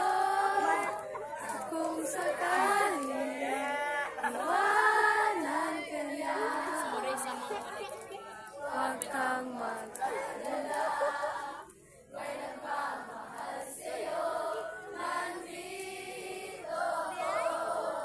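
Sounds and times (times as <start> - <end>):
group singing together: 0.0 - 18.0.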